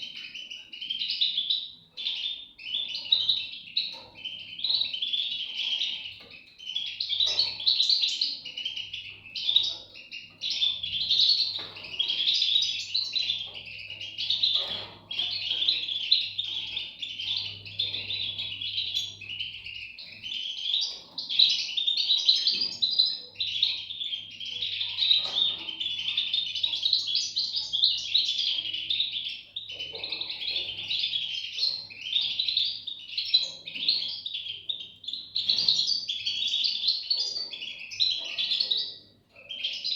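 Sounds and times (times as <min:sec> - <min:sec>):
nestlings chirping chorus: 0:00.0 - 0:39.9.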